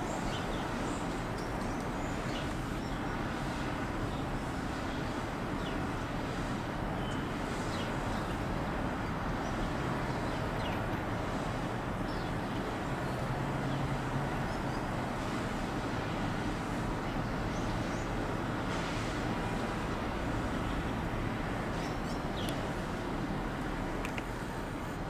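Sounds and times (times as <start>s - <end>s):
distant road traffic rumble: 0.0s - 25.0s.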